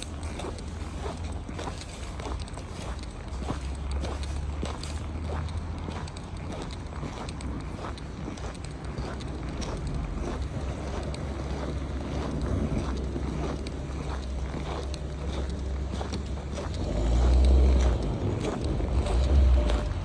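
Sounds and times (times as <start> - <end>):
footsteps crunching on snow: 0.0 - 20.0
steady low rumble: 0.0 - 20.0.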